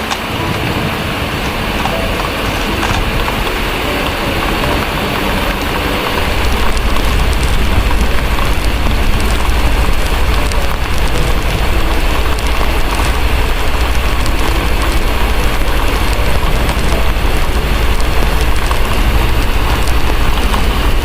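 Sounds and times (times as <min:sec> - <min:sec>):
distant thunder rumble: 0:00.0 - 0:21.0
fireplace crackling: 0:00.0 - 0:21.0
heavy rain: 0:00.0 - 0:21.0.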